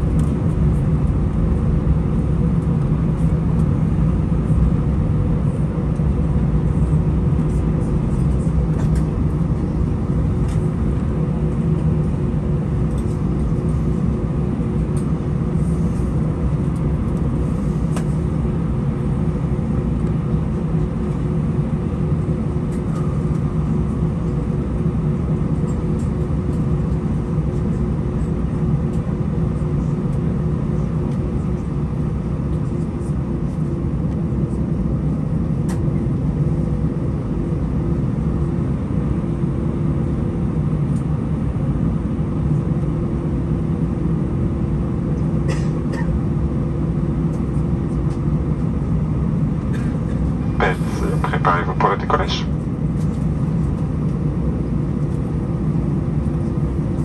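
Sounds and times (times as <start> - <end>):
jet engine cabin hum: 0.0 - 57.0.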